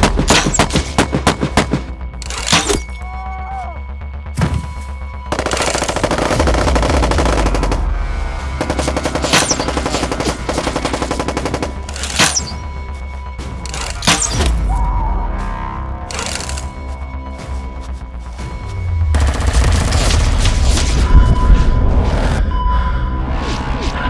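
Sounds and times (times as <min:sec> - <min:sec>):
background music with steady bass: 0:00.0 - 0:24.0.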